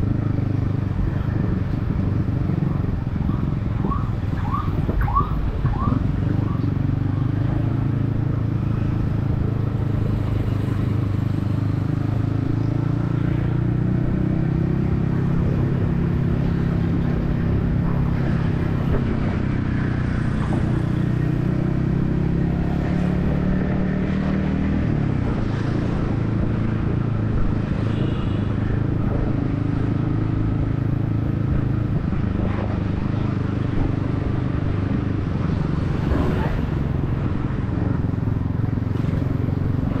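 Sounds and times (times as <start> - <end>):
road and traffic noise: 0.0 - 40.0.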